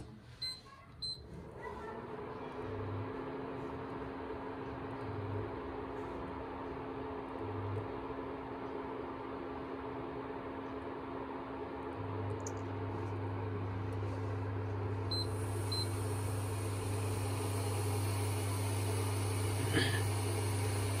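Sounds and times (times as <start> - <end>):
induction cooktop humming: 0.0 - 21.0.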